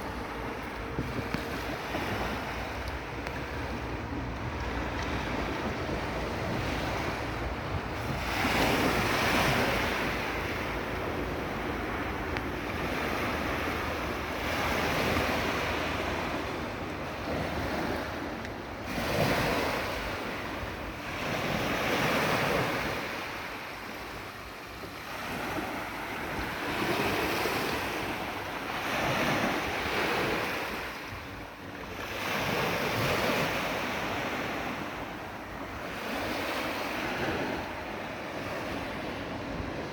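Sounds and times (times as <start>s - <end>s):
sea waves breaking: 0.0s - 39.9s
wind buffeting microphone: 0.0s - 39.9s.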